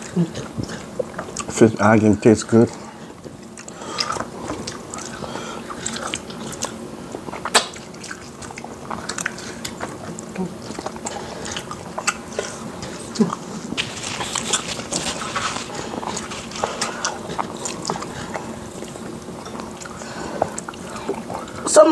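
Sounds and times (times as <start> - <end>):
chewing and wet mouth clicks: 0.4 - 1.6, 3.2 - 13.5, 14.1 - 21.6.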